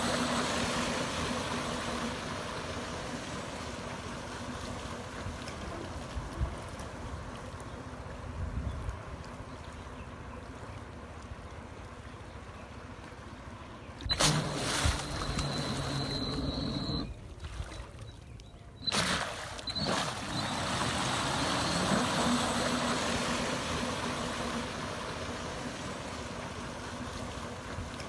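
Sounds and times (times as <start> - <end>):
thrusters churning water: 0.0 - 18.1, 18.7 - 28.0
faint motor hum: 0.0 - 28.0.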